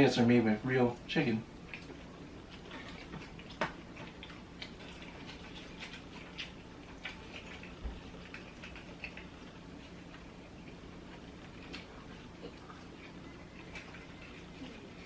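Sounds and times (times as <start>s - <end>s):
faint steady hum: 0.0s - 15.0s
chewing with wet mouth clicks: 1.6s - 15.0s.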